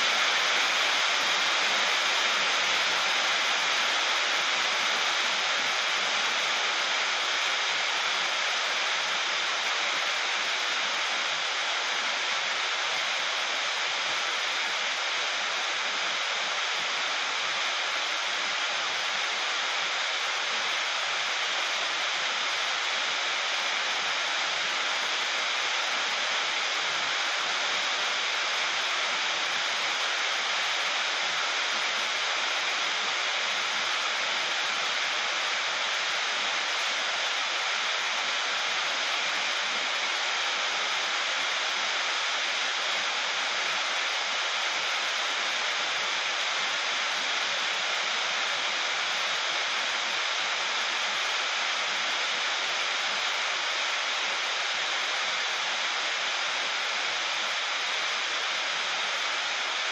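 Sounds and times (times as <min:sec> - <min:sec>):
heavy rain on a metal roof: 0:00.0 - 0:59.9.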